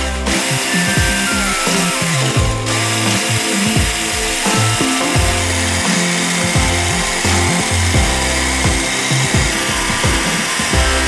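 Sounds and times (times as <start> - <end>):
background music: 0.0 - 11.0
electric hand blender whisking: 0.0 - 11.0.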